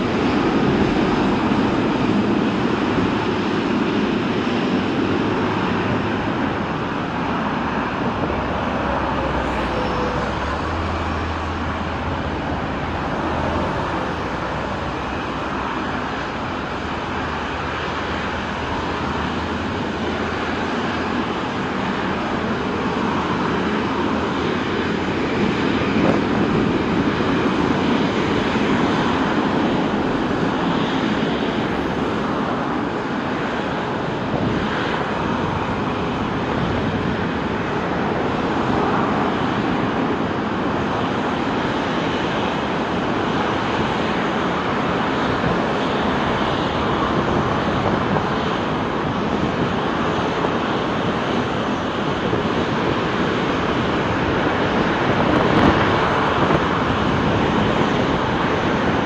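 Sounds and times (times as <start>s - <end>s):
jet engines running at low power: 0.0s - 59.0s.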